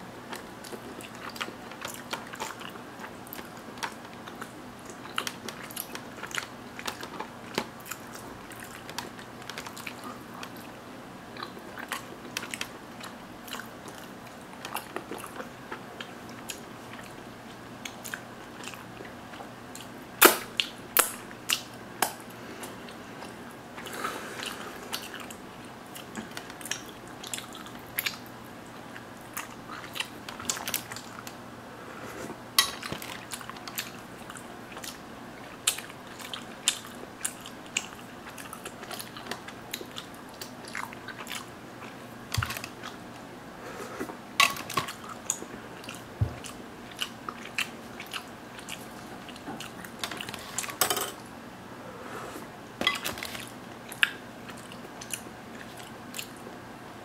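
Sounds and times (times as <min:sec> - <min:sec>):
person chewing wetly: 0:00.2 - 0:31.4, 0:32.2 - 0:50.8, 0:52.8 - 0:56.6.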